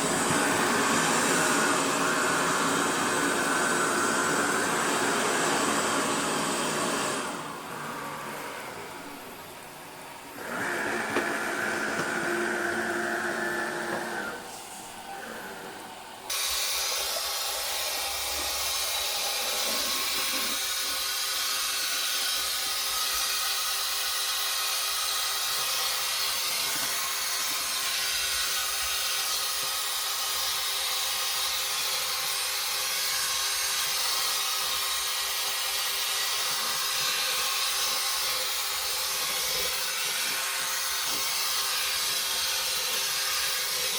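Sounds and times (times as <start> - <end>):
robot vacuum motor whine: 0.0 - 9.3, 10.3 - 43.9
suction fan rushing: 0.0 - 43.9.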